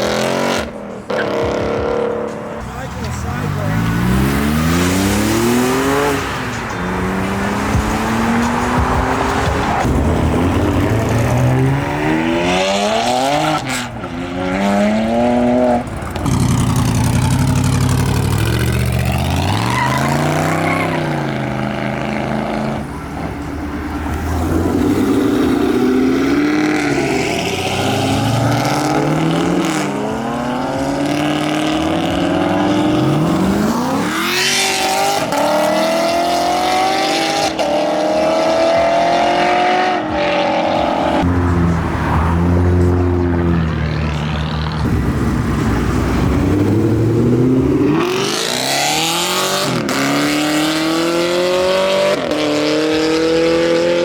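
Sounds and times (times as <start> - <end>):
cars revving and accelerating past: 0.0 - 54.0.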